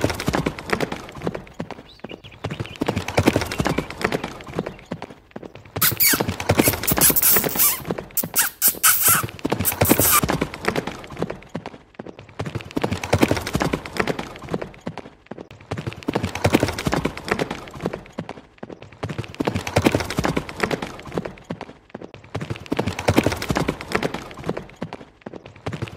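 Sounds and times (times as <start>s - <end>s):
toy horse clip-clop hooves: 0.0s - 25.9s.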